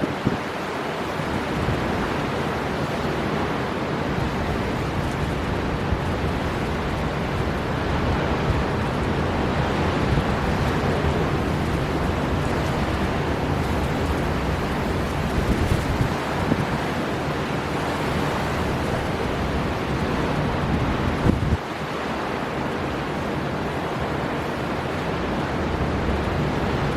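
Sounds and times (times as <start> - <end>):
heavy sea surf: 0.0 - 26.9
storm wind: 0.0 - 26.9.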